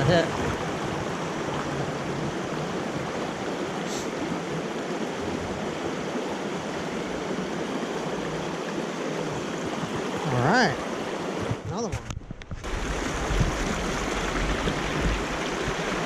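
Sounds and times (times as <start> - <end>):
creek babbling over rocks: 0.0 - 11.6, 12.7 - 16.0.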